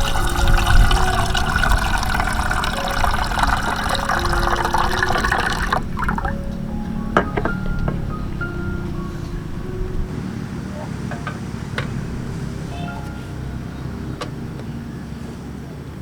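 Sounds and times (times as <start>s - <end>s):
heavy rain hiss: 0.0s - 15.6s
soft background music: 0.0s - 16.0s.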